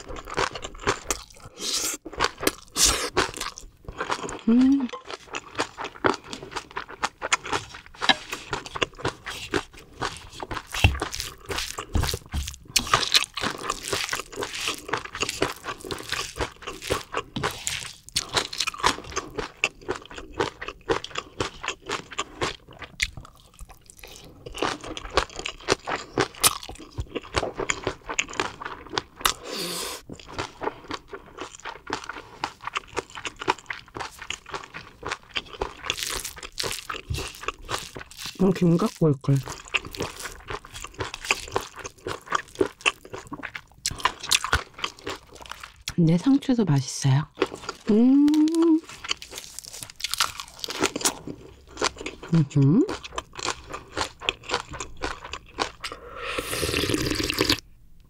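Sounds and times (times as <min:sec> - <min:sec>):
person chewing crunchy food: 0:00.0 - 0:46.0, 0:47.3 - 0:57.6.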